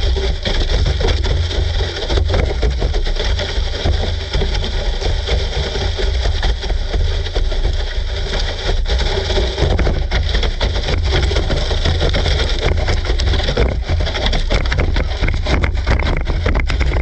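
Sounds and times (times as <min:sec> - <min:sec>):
rc car motor and wheels rattling: 0:00.0 - 0:17.0
short knocks and clatters: 0:00.0 - 0:17.0.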